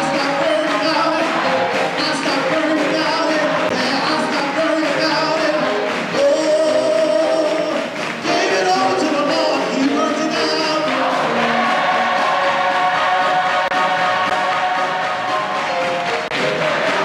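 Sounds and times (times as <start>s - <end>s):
choir singing in harmony: 0.0s - 17.0s.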